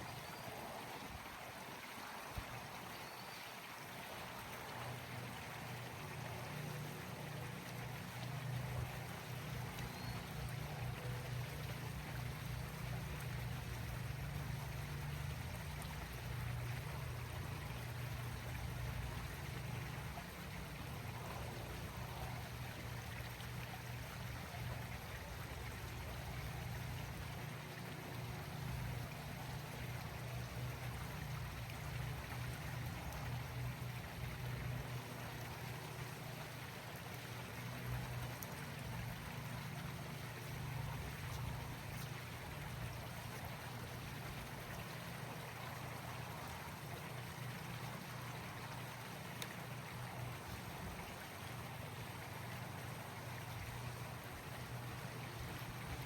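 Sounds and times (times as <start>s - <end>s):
pool pump humming: 0.0s - 56.0s.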